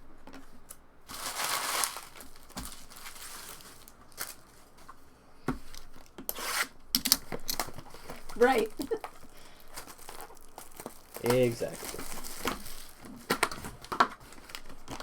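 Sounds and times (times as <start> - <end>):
wrapper tearing and crinkling: 1.1 - 4.8, 5.9 - 15.0.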